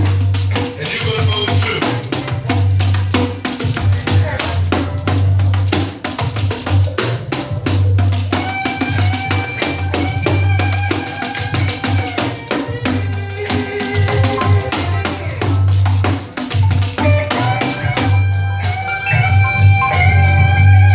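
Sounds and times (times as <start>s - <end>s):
pandeiro jingles and strikes: 0.0s - 18.2s
recorded soul song: 0.0s - 20.9s.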